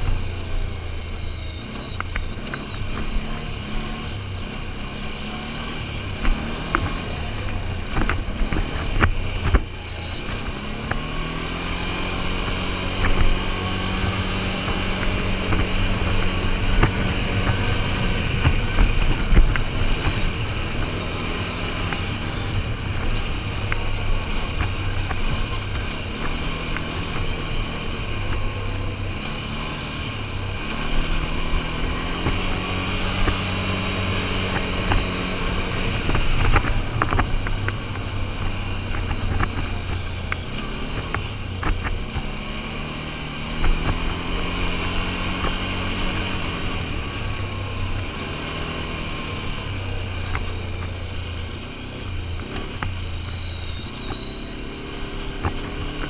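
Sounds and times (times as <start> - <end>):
high whine: 0.0 - 56.0
quad bike engine running: 0.0 - 56.0.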